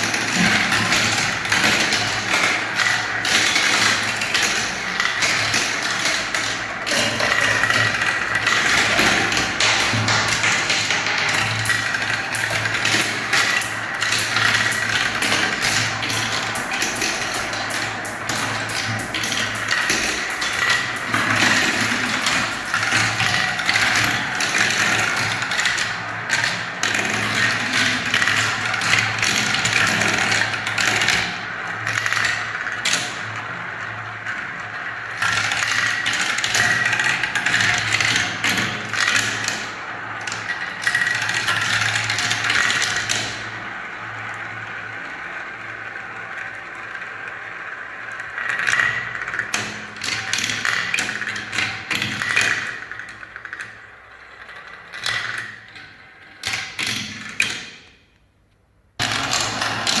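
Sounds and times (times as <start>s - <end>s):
marbles rolling and clattering: 0.0s - 57.6s.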